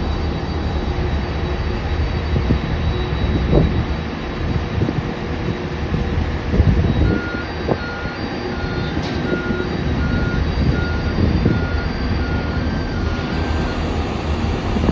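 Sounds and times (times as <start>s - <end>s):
low rumble of engines: 0.0s - 14.9s
backup alarm beeping: 2.3s - 14.8s.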